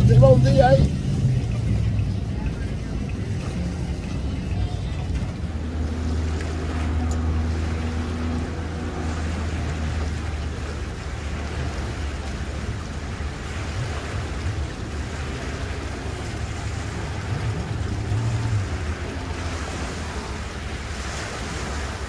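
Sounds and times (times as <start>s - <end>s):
motorboat engine humming: 0.0s - 22.0s
waves washing against shore: 0.0s - 22.0s.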